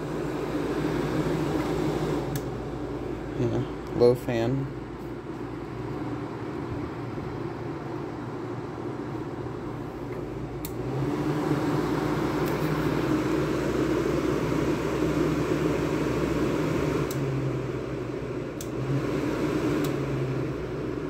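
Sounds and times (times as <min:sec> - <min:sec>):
air conditioner fan running: 0:00.0 - 0:21.0
steady low hum: 0:00.0 - 0:21.0.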